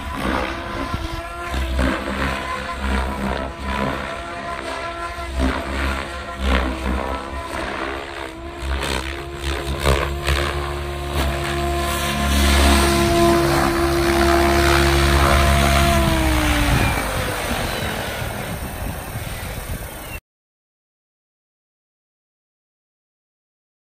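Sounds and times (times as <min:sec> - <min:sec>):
helicopter rotors whirring: 0:00.0 - 0:20.2.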